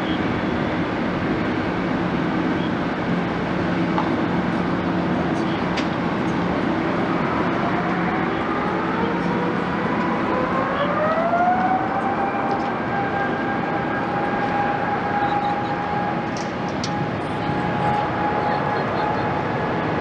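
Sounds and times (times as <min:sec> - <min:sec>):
distant jet engines rushing: 0:00.0 - 0:20.0
jet engine whine: 0:00.0 - 0:20.0.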